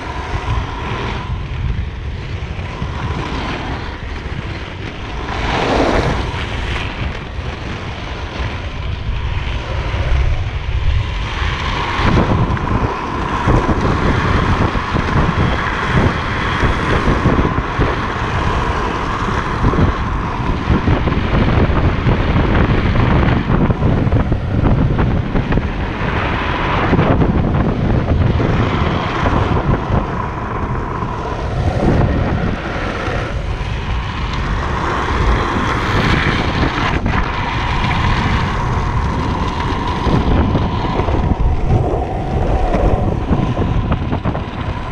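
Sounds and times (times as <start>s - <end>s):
wheels rolling on asphalt: 0.0s - 44.9s
wind buffeting microphone: 0.0s - 44.9s.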